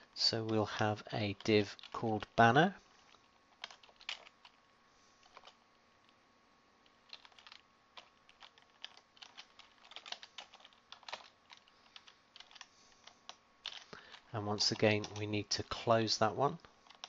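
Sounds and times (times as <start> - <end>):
faint keyboard typing: 0.1 - 6.2, 6.8 - 17.0.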